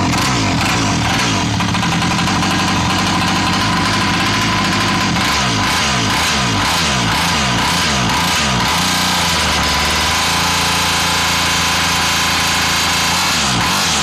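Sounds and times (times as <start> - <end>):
mini quad bike engine revving: 0.0 - 14.0.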